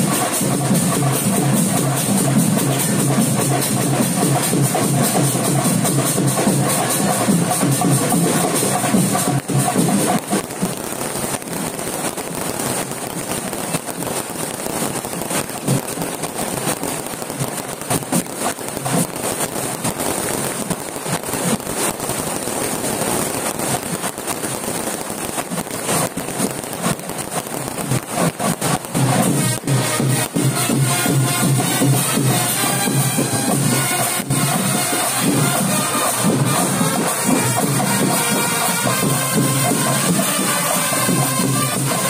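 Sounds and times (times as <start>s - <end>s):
firecrackers crackling: 0.0s - 42.0s.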